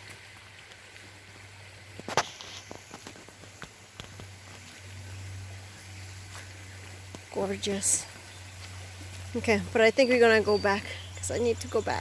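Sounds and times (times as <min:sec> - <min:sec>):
footsteps on wet gravel: 0:00.0 - 0:12.0.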